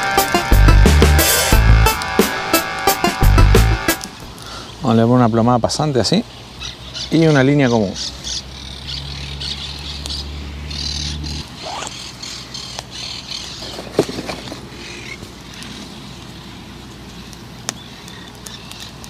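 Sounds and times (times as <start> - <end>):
birds chirping and squawking: 0.0 - 19.0.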